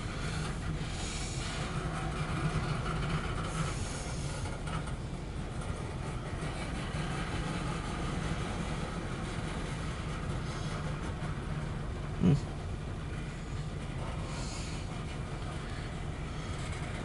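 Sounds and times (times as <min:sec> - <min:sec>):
constant low hum: 0:00.0 - 0:17.0
freight train rumbling on rails: 0:00.0 - 0:17.0.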